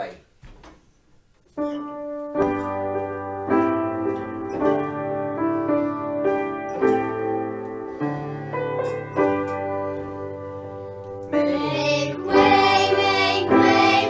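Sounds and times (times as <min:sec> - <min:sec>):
upright piano playing chords: 0:01.5 - 0:14.0.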